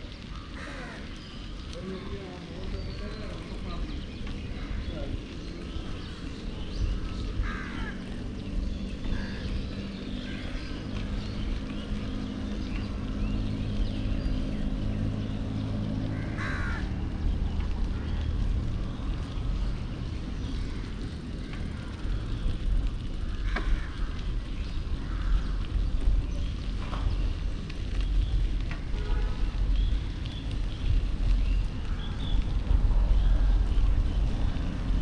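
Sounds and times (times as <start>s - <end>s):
bicycle tyres on wet road: 0.0s - 35.0s
birds chirping: 0.0s - 35.0s.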